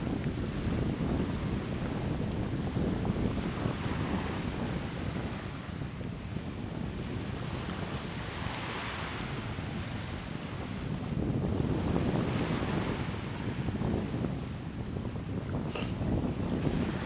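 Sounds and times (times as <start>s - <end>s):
small waves washing ashore: 0.0s - 17.0s
wind rumbling on microphone: 0.0s - 17.0s.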